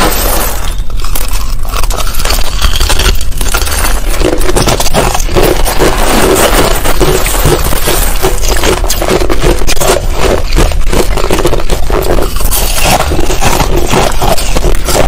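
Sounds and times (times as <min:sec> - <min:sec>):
crushed ice being chewed: 0:00.0 - 0:15.0.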